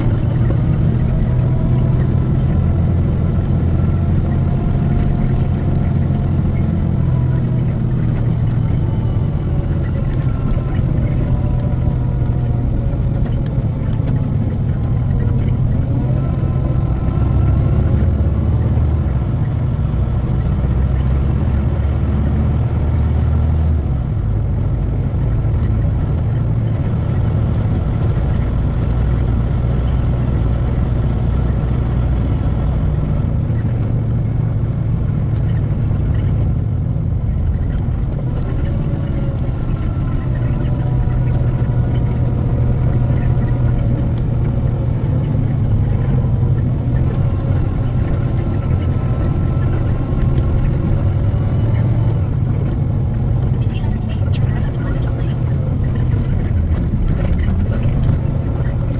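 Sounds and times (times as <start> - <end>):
road noise: 0.0 - 58.9
truck engine drone: 0.0 - 58.9.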